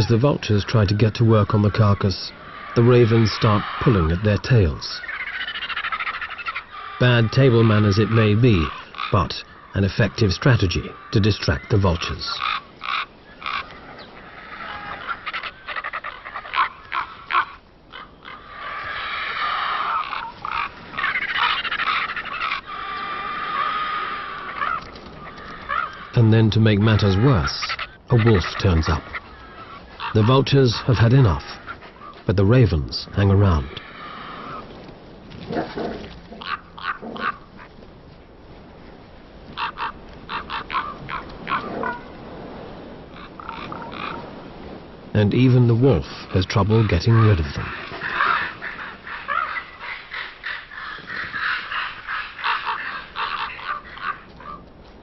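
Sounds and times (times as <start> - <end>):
birds harsh squabbling calls: 0.0 - 34.8, 35.4 - 37.8, 39.5 - 54.7
ravens croaking: 0.0 - 38.1, 39.0 - 55.0.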